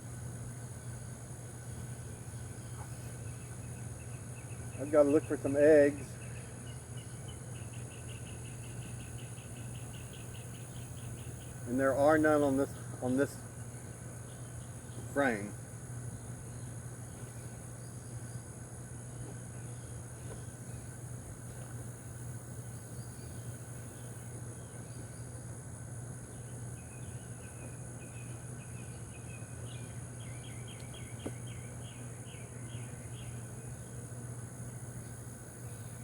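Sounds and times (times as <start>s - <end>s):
high insect drone: 0.0s - 36.0s
honeybees humming: 0.0s - 36.0s.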